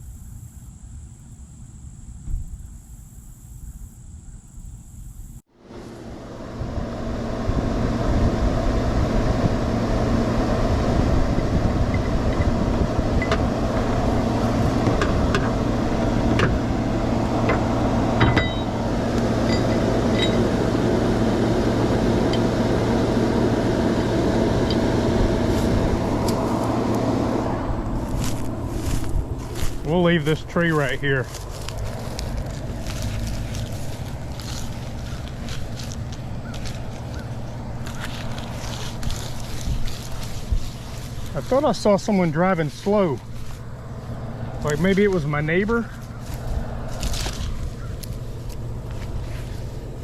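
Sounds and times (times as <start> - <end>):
pickup truck engine running: 5.6 - 50.0.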